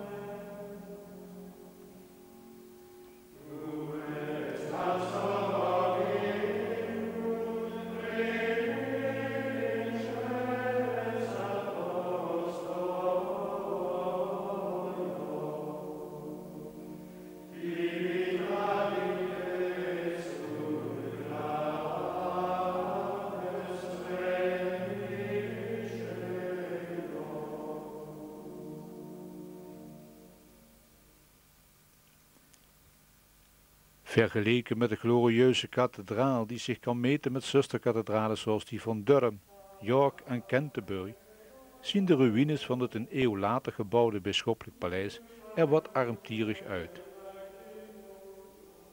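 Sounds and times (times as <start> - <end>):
choir chanting slow held notes: 0.0 - 31.2, 39.4 - 43.5, 44.9 - 48.9.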